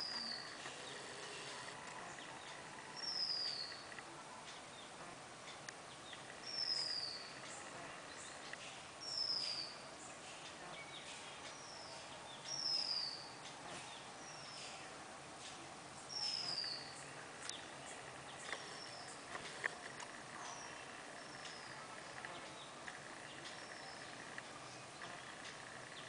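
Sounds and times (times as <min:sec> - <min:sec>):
faint bird chirps: 0:00.0 - 0:15.0, 0:15.9 - 0:26.0
background hiss: 0:00.0 - 0:26.0.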